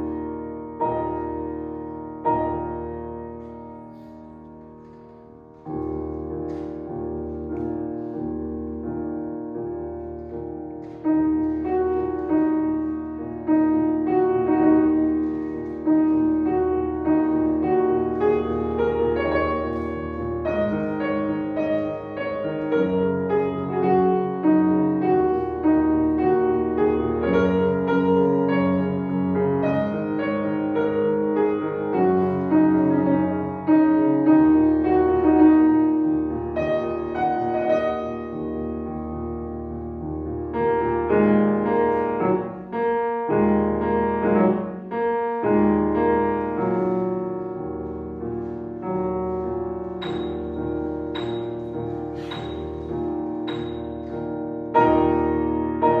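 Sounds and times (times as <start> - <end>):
solo piano piece: 0.0 - 56.0.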